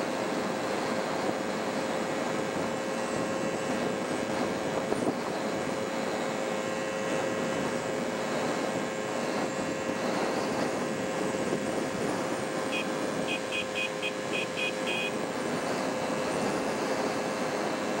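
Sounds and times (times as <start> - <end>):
car road and engine noise: 0.0 - 18.0
constant hum: 0.0 - 18.0.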